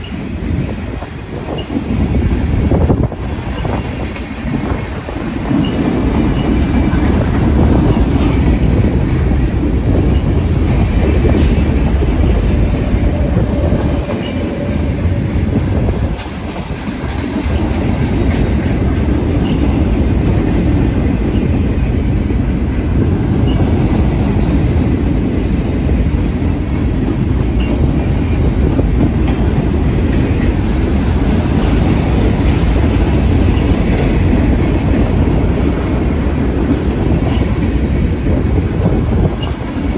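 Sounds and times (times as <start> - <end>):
steel wheels on rail: 0.0 - 39.9.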